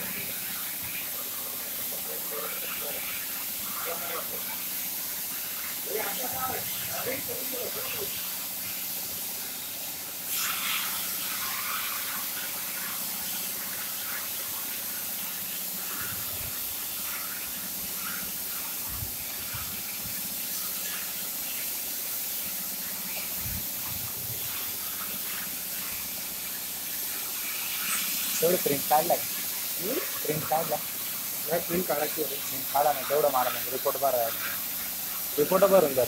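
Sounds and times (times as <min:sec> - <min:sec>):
cutting torch hissing: 0:00.0 - 0:36.0.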